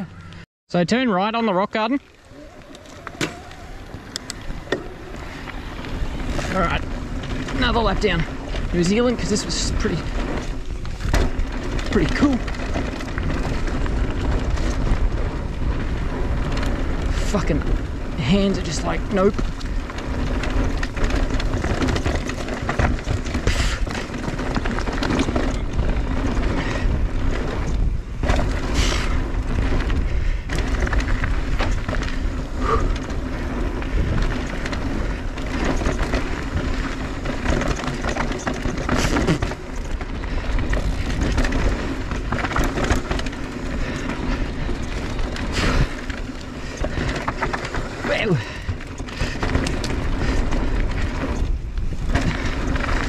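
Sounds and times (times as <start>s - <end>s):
tyres rolling over dirt: 1.2s - 53.0s
bike rattling and knocking: 1.8s - 53.0s
wind buffeting microphone: 1.9s - 53.0s.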